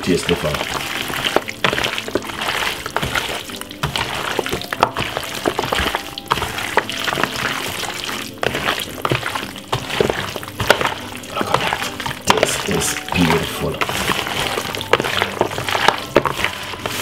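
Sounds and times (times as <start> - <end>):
meat squelching in marinade: 0.0 - 17.0.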